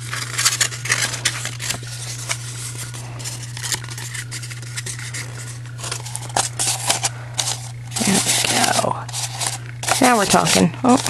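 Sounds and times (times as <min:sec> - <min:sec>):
paper rustling and crinkling: 0:00.0 - 0:11.0
steady low hum: 0:00.0 - 0:11.0.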